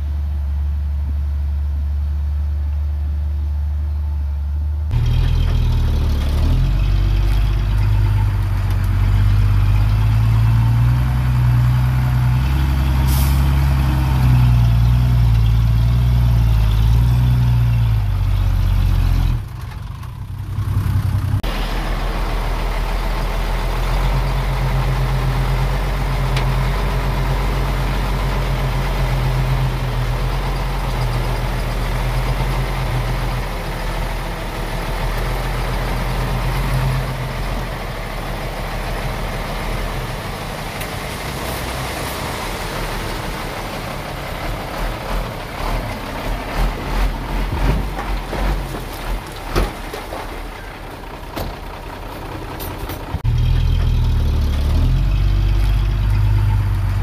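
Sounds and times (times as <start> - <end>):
heavy diesel engines rumbling: 0.0 - 57.0.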